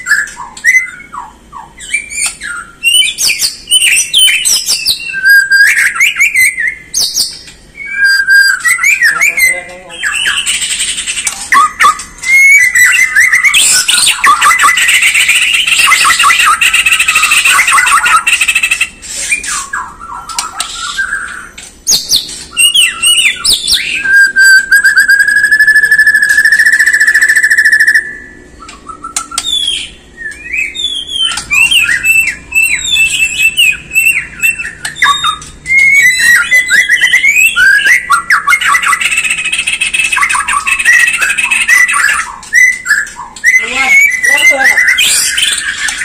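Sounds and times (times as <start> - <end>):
bird singing whistled phrases: 0.0 - 46.0.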